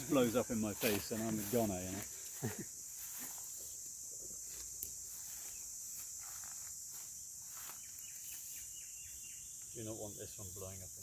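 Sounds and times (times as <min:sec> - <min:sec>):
insect chorus chirring: 0:00.0 - 0:11.0.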